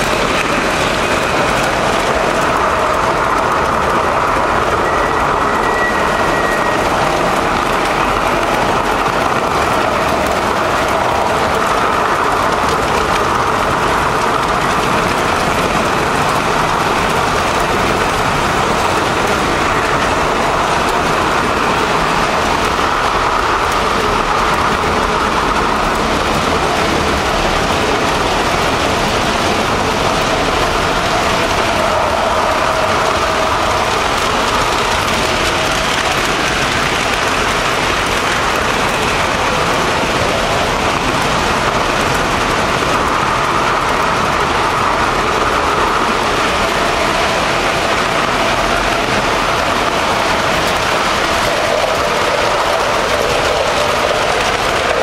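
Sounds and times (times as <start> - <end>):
model train rolling on rails: 0.0 - 55.0.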